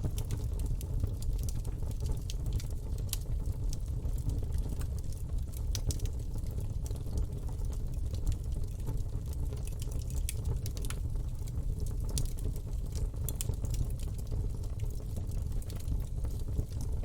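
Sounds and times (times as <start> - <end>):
flames rumbling: 0.0 - 17.0
wood crackling and popping: 0.0 - 17.0.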